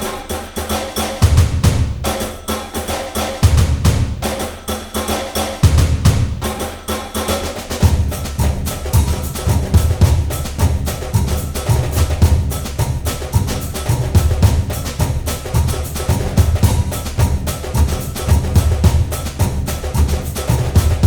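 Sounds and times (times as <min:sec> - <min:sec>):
instrumental music with percussion beat: 0:00.0 - 0:21.0.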